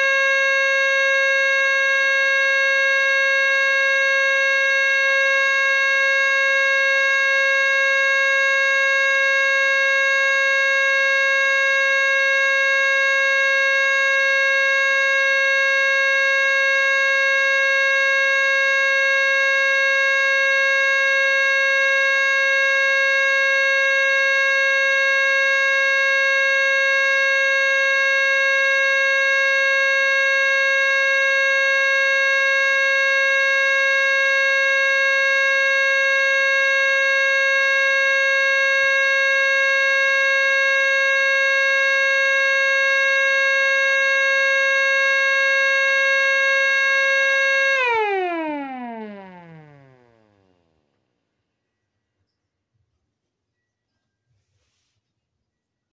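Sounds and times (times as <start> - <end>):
electric siren steady tone: 0.0 - 51.6.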